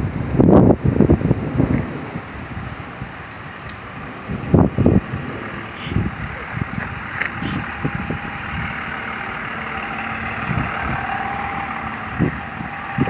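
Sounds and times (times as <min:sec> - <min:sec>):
wind buffeting the microphone: 0:00.0 - 0:13.0
wind rushing through trees: 0:00.0 - 0:13.0.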